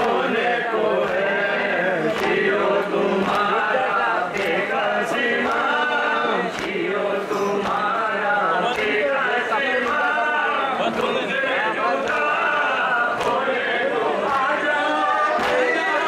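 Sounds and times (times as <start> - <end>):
hands slapping chests: 0.0 - 10.2, 12.0 - 16.0
men chanting in unison: 0.0 - 16.0.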